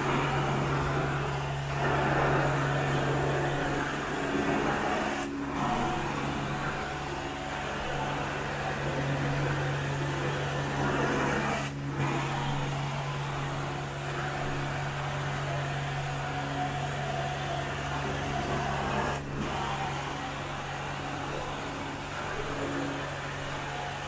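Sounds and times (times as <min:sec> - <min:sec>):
carpet extractor vacuum: 0:00.0 - 0:24.0.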